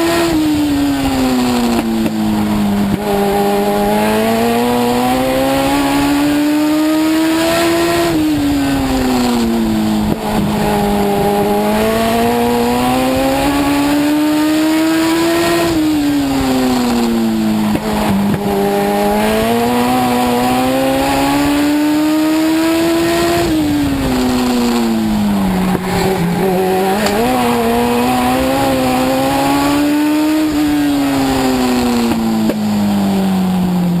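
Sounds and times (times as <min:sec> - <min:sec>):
race car engine at racing speed: 0:00.0 - 0:34.0.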